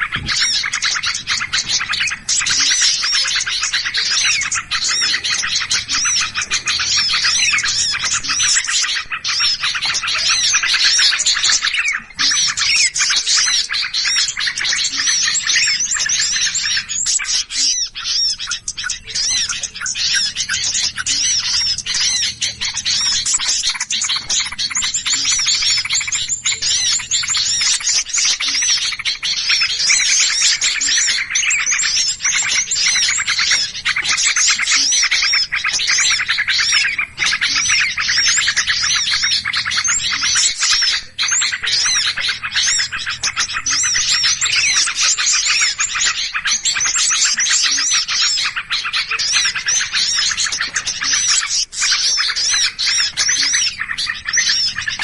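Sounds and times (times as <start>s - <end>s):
chorus of small birds chirping: 0.0s - 55.0s.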